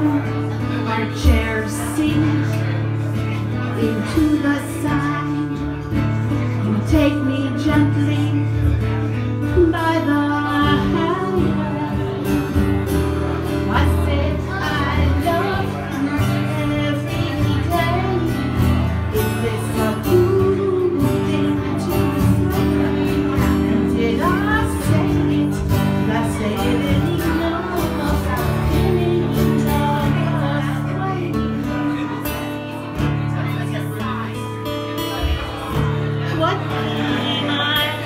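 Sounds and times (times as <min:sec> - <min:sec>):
woman singing into microphone: 0:00.0 - 0:32.4, 0:36.3 - 0:38.0
acoustic guitar: 0:00.0 - 0:38.0.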